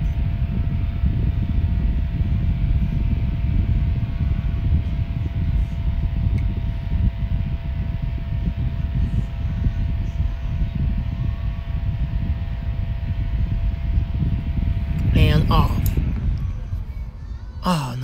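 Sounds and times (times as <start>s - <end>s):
desk fan motor humming: 0.0s - 18.0s.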